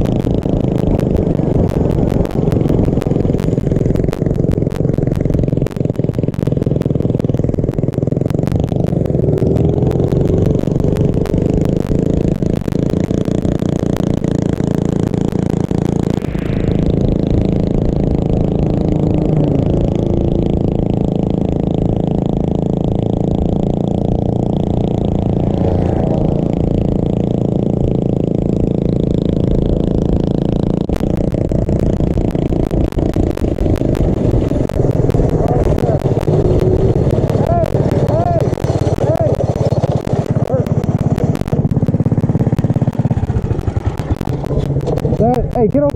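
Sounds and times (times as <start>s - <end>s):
small bike engine running: 0.0s - 45.9s.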